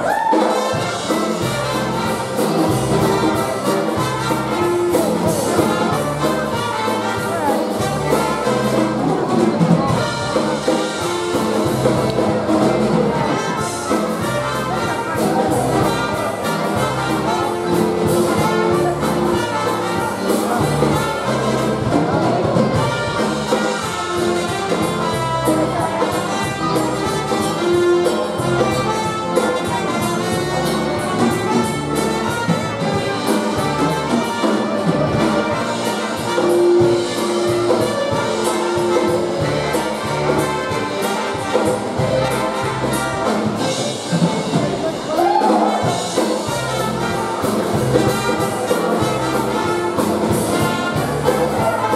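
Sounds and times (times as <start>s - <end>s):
bass beat: 0.0s - 51.9s
drums: 0.0s - 51.9s
trumpets playing tune: 0.0s - 51.9s
accordion: 0.5s - 45.2s, 45.9s - 51.9s.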